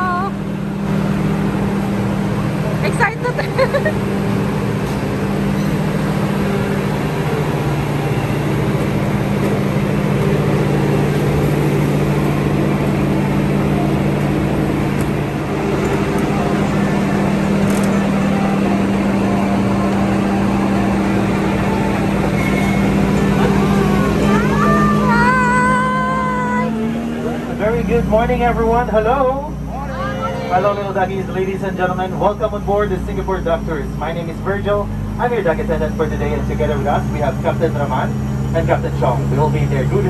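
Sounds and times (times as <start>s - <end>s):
vehicle engine idling: 0.0s - 40.0s.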